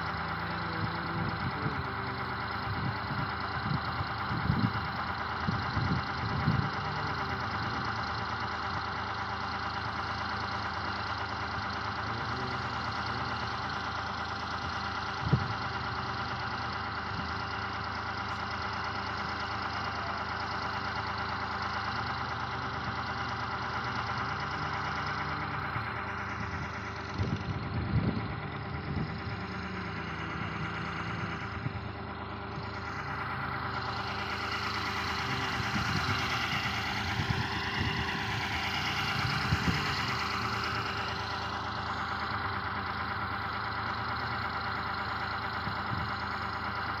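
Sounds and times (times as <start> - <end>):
engine running steadily: 0.0 - 47.0.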